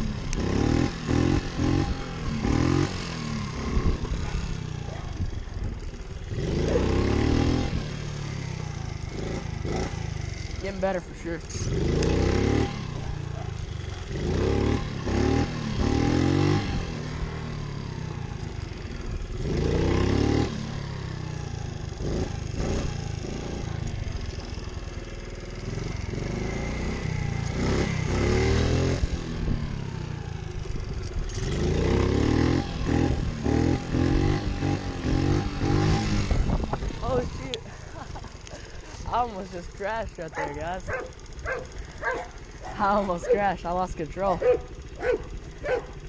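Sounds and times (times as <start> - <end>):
pit bike engine revving: 0.0 - 46.0.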